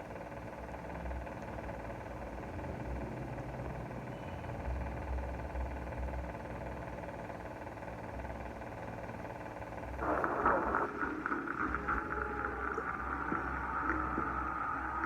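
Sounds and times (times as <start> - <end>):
vehicle engine running: 1.6 - 15.0.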